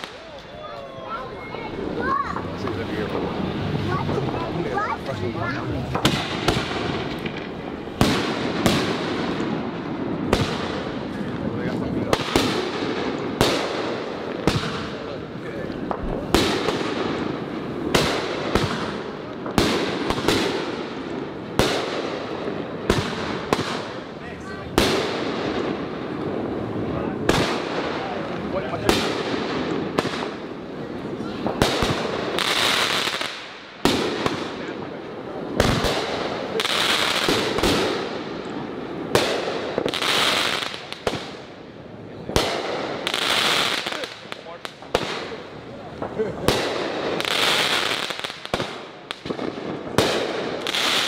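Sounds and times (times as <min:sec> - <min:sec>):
fireworks bangs: 0:00.0 - 0:51.0
fireworks crackle: 0:00.0 - 0:51.0.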